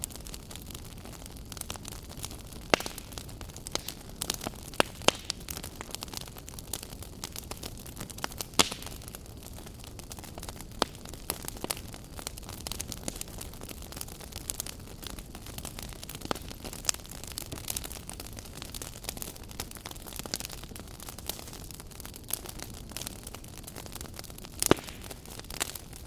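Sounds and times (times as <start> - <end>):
fire crackling and popping: 0.0 - 26.0
wood fire burning: 0.0 - 26.0.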